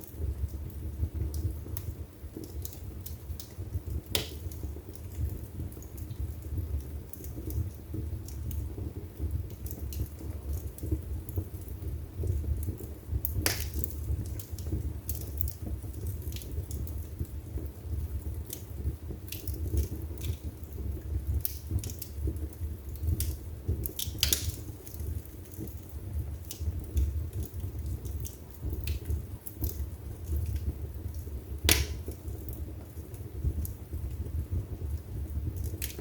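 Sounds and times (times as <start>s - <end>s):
burning wood crackling and popping: 0.0s - 36.0s
fire flames rumbling: 0.0s - 36.0s.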